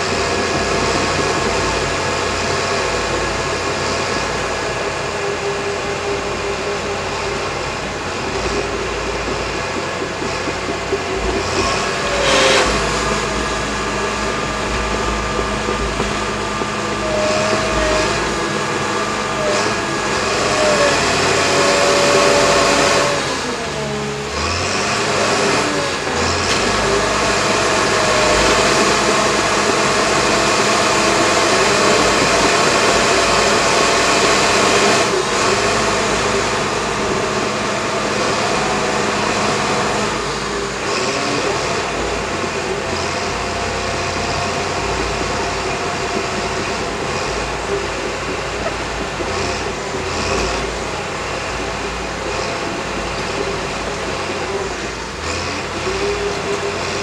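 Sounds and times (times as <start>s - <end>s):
diesel engine droning with whine: 0.0s - 57.0s.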